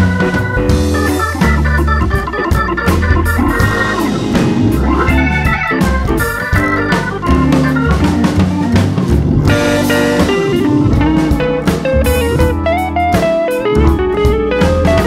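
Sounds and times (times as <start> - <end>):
bass: 0.0 - 15.0
blues guitar melody: 0.0 - 15.0
drum kit steady beat: 0.0 - 15.0.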